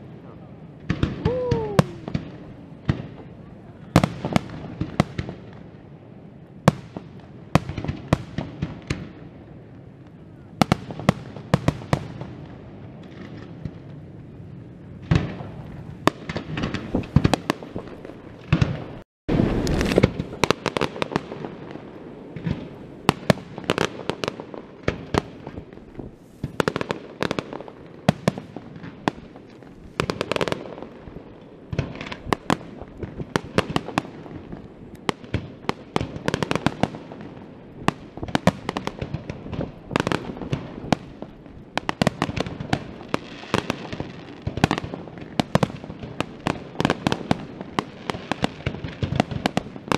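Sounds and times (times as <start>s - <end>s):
continuous crackling: 6.4s - 49.9s.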